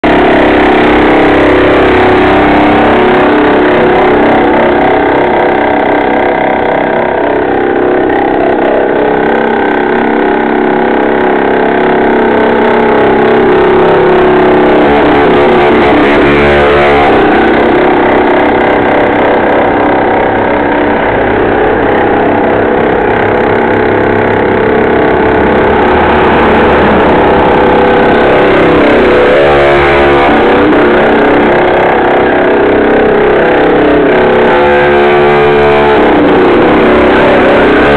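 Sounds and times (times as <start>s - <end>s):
small engine revving: 0.0s - 37.9s.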